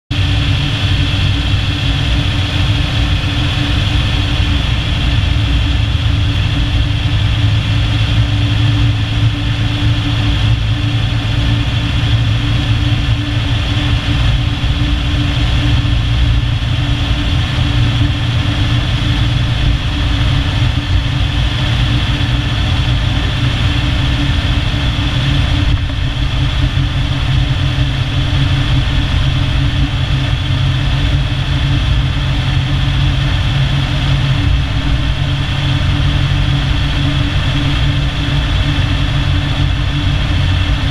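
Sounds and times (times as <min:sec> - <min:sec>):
constant hum: 0:00.1 - 0:40.9
tyres and drivetrain rumbling: 0:00.1 - 0:40.9.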